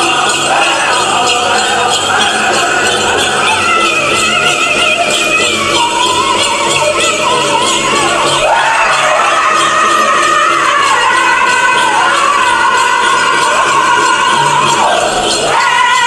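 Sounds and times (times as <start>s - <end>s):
high wavering voices singing: 0.0s - 16.0s
jingling bells: 0.0s - 16.0s.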